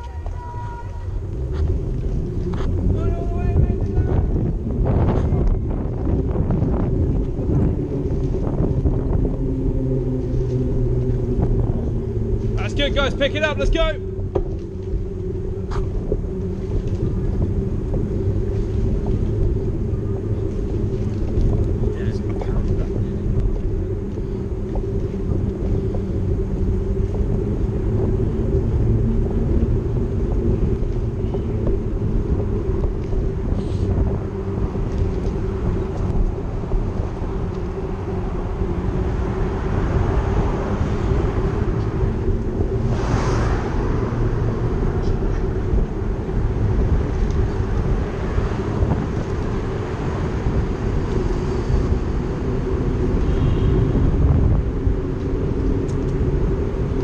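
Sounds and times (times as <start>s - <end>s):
low rumble of travel: 0.0s - 57.0s
wind on microphone: 0.0s - 57.0s.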